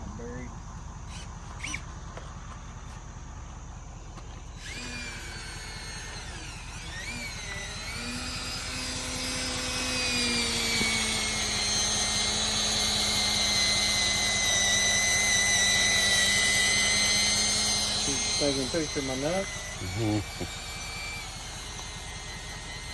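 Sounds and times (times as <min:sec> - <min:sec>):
machine rumbling: 0:00.0 - 0:22.9.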